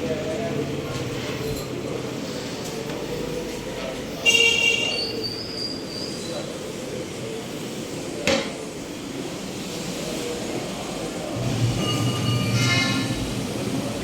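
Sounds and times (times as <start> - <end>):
background traffic noise: 0.0 - 14.0.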